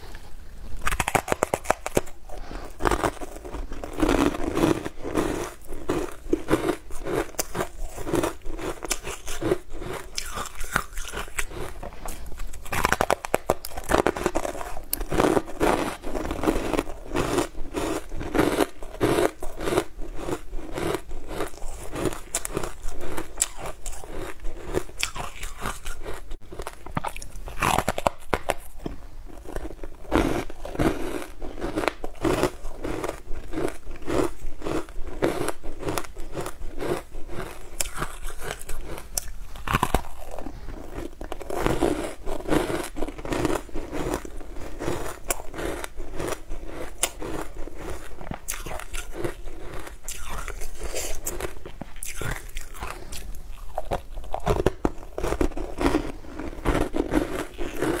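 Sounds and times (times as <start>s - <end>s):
crunching bites and chewing: 0.8s - 58.0s.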